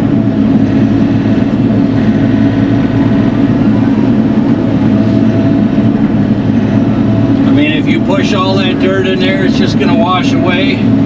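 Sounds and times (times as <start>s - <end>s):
mini excavator diesel engine: 0.0s - 11.0s.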